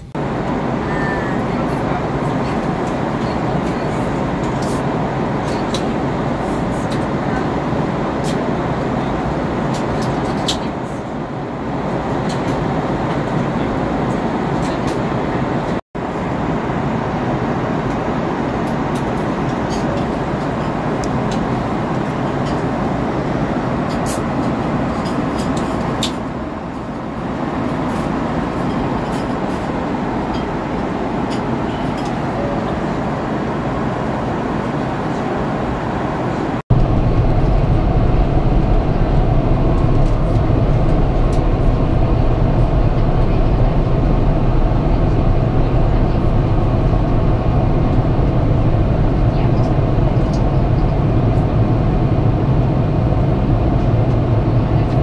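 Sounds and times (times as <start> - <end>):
airplane cabin engine and airflow rush: 0.0 - 55.0.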